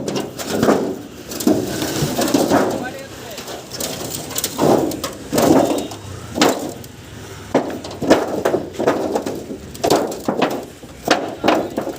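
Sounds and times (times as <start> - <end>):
metal panels knocking and banging: 0.0 - 6.9, 7.5 - 11.9.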